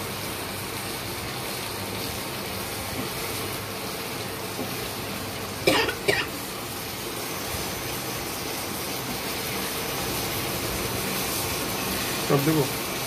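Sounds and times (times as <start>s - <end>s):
mushrooms sizzling in a wok: 0.0s - 13.0s.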